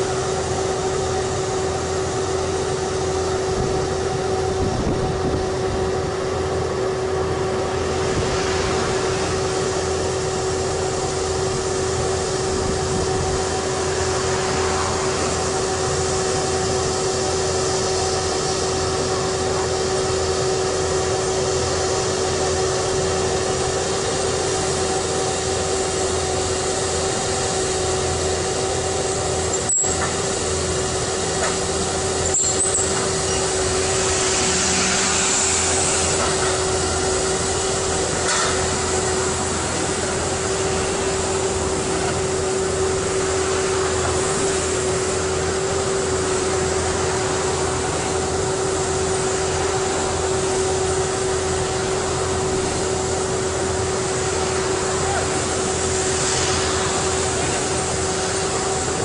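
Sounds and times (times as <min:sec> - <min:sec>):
drilling rig engine humming: 0:00.0 - 0:59.0.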